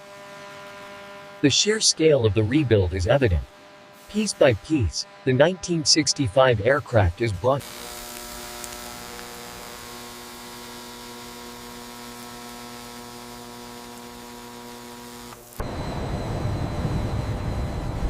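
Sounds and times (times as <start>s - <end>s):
steady multi-tone hum: 0.0s - 18.0s.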